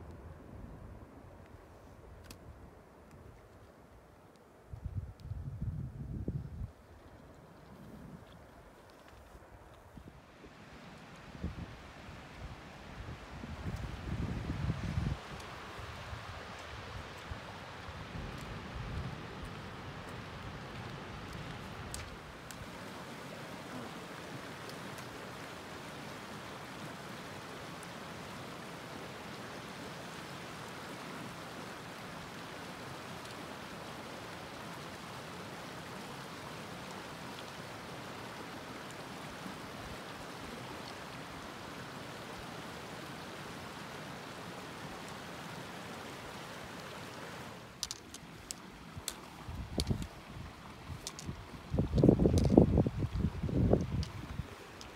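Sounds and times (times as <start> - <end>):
creek running over rocks: 1.3 - 54.9.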